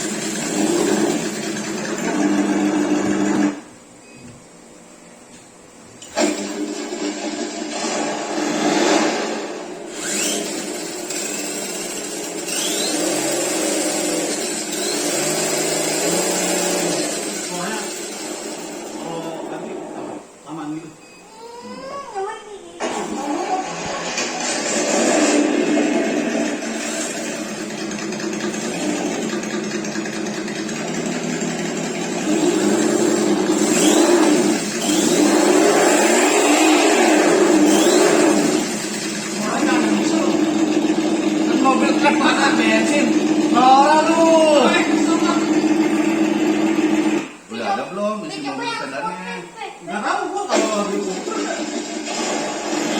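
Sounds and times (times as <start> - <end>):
electric toy truck motor whine: 0.0 - 3.6, 6.1 - 19.0, 23.1 - 47.4, 50.8 - 52.9.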